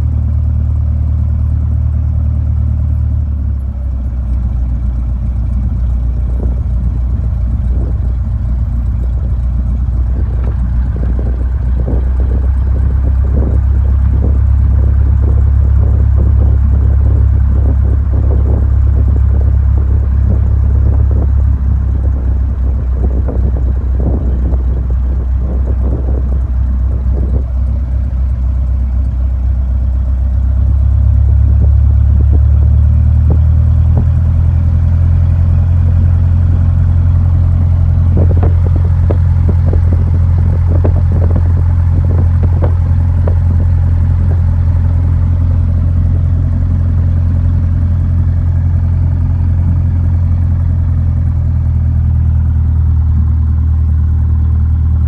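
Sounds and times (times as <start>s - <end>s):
aircraft piston engine drone: 3.2s - 55.0s.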